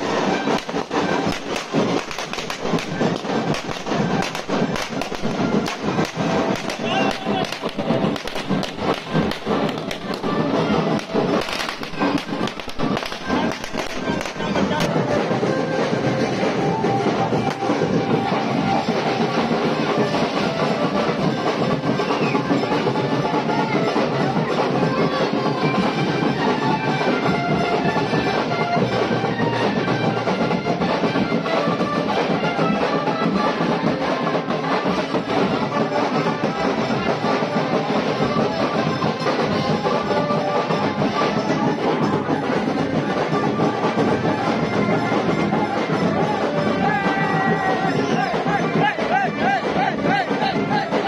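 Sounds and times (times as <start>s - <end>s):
loud music with drums: 0.0s - 51.0s.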